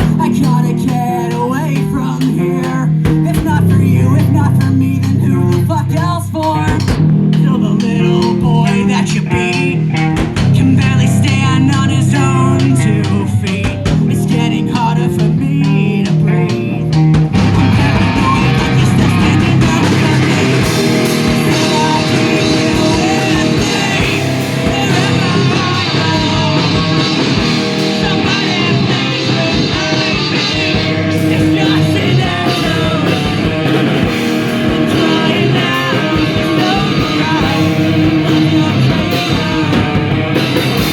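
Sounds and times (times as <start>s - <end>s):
metal band playing: 0.0s - 40.9s
person singing: 0.0s - 40.9s.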